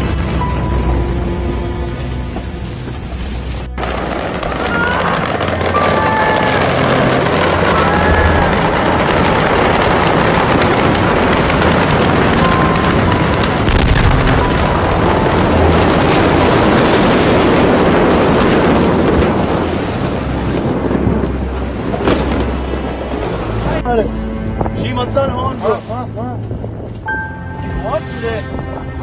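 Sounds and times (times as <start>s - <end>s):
fire crackling and popping: 0.0s - 24.7s
explosion rumbling surge: 0.0s - 24.8s.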